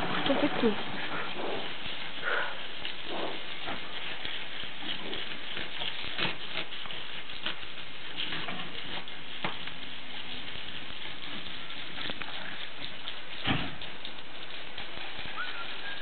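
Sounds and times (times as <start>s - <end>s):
hose water spraying and splashing: 0.0s - 16.0s.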